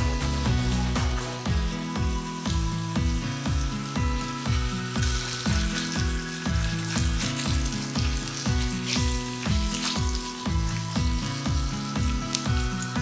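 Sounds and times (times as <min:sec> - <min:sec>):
background music with beat: 0:00.0 - 0:13.0
food sizzling in a pan: 0:00.0 - 0:13.0.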